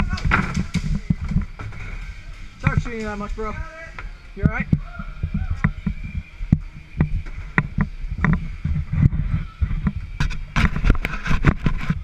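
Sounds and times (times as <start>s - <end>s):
camera movement rumble and thumps: 0.0s - 12.0s
sharp crackling noises: 0.0s - 12.0s.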